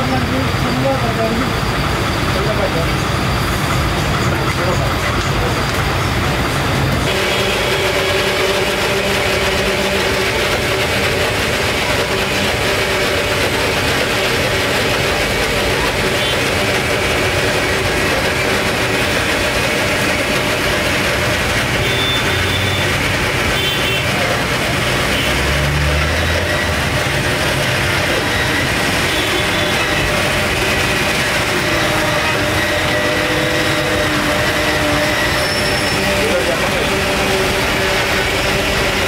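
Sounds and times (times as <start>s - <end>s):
mixer grinder motor blending: 0.0s - 39.0s.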